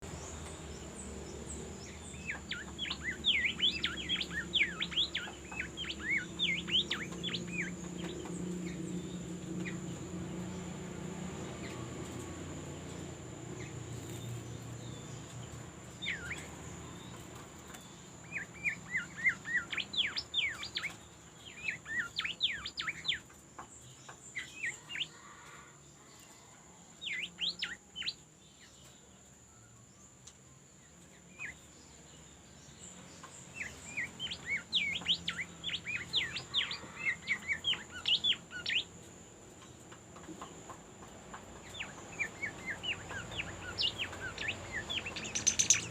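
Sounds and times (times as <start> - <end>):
songbird twittering chirps: 0.0 - 45.9.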